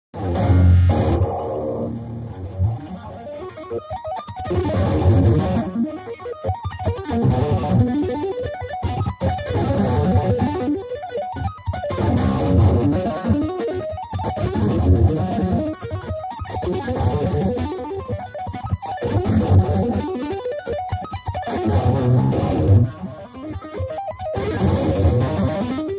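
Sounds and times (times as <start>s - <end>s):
electric guitar shred runs: 0.2s - 25.9s.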